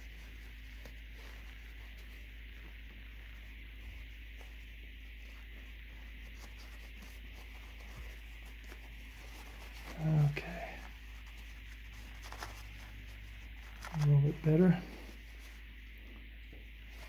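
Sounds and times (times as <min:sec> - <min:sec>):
paper towel rubbing and rustling: 0:00.0 - 0:17.0
steady low hum: 0:00.0 - 0:17.0.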